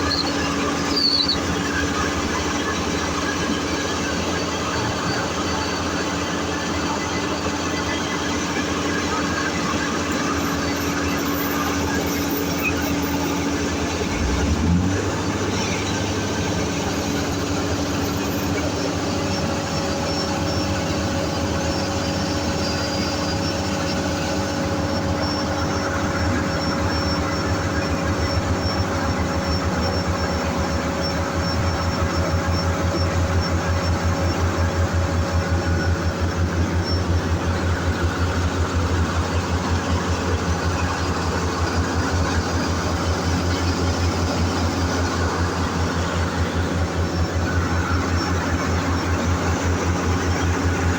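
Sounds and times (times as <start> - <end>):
diesel machinery engine running: 0.0 - 50.9.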